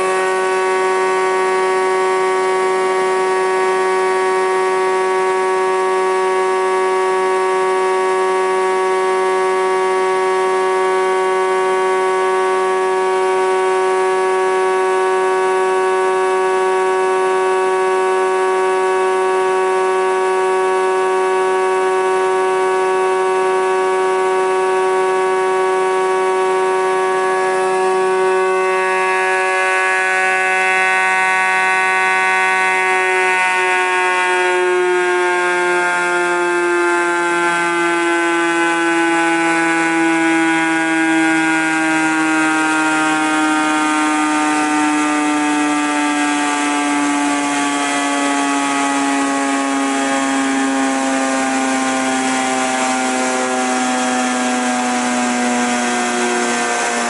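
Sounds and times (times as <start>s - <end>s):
thickness planer whining: 0.0s - 57.0s.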